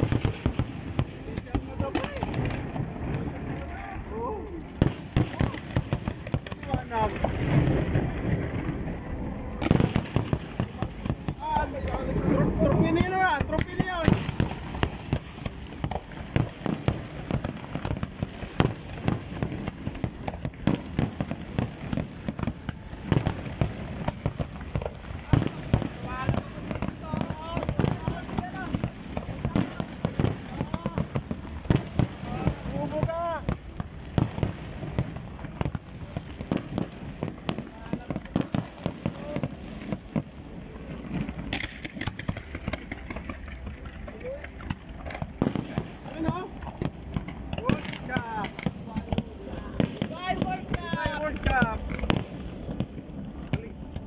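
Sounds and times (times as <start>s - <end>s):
background rumble: 0.0s - 54.0s
fireworks bangs: 0.0s - 54.0s.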